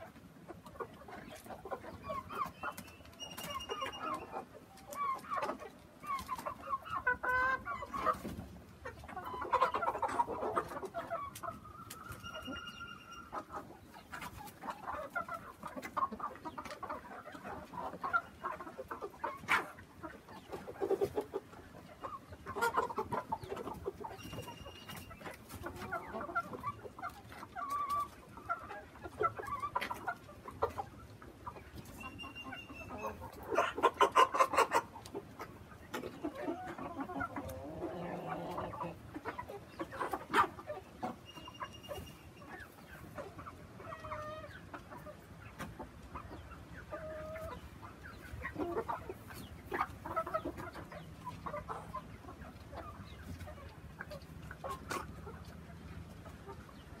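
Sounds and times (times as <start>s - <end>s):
chickens clucking: 0.0s - 57.0s
roosters calling: 0.0s - 57.0s.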